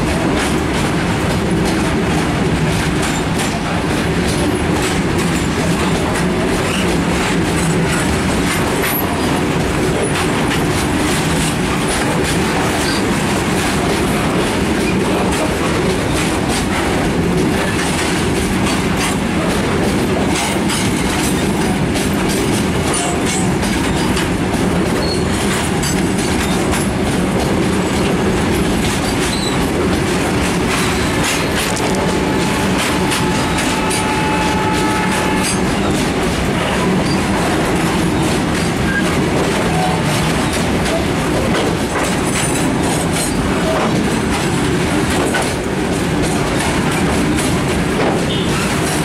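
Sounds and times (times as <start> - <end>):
freight train rumbling past: 0.0 - 49.0
wheels clattering over rail joints: 0.0 - 49.0.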